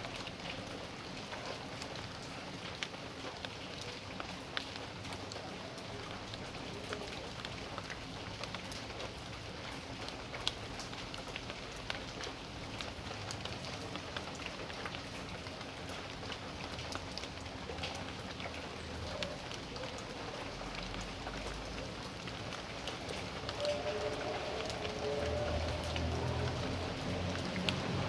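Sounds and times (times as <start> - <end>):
raindrops ticking: 0.0 - 28.0
steady rain hiss: 0.0 - 28.0.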